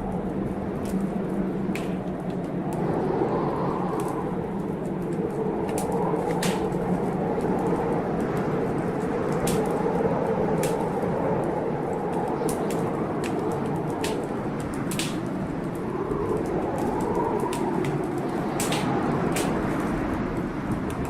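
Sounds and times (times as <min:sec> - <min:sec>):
blizzard wind blowing: 0:00.0 - 0:21.0
wood fire crackling: 0:00.0 - 0:21.0.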